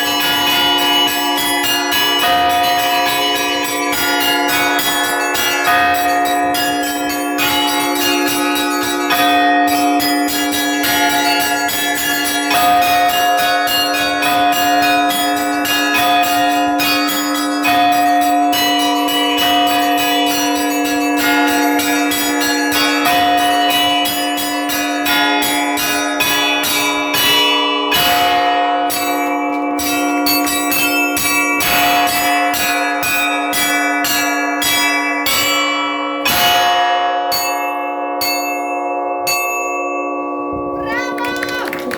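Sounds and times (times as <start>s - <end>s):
larger church bells ringing: 0.0s - 41.9s
small church bells ringing quickly: 0.0s - 41.9s.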